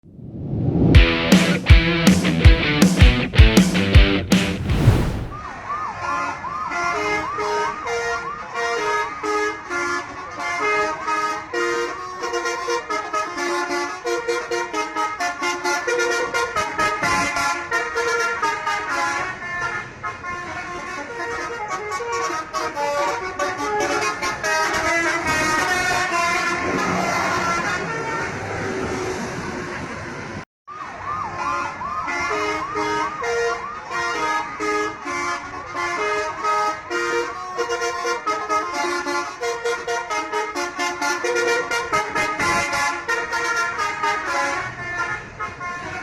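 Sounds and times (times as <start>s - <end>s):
bus multi-tone horn tune: 6.0s - 29.3s, 31.4s - 46.0s.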